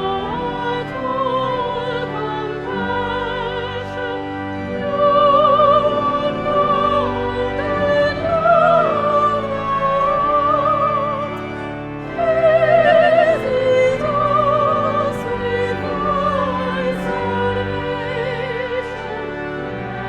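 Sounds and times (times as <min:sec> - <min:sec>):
person singing classical: 0:00.0 - 0:20.0
sustained accompaniment: 0:00.0 - 0:20.0.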